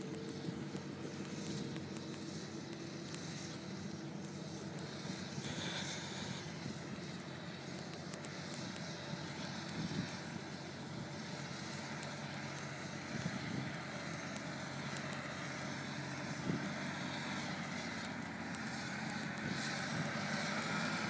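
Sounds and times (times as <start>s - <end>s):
constant rushing noise: 0.0s - 21.0s
engine running steadily: 0.0s - 21.0s.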